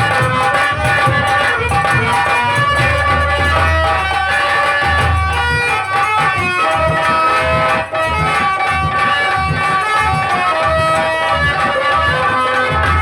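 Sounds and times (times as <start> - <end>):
hand drums beat: 0.0 - 13.0.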